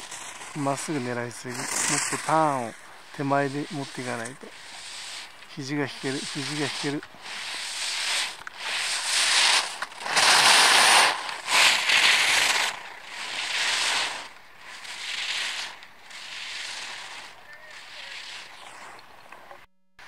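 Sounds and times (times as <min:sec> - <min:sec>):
skis carving on hard snow: 0:00.0 - 0:19.6.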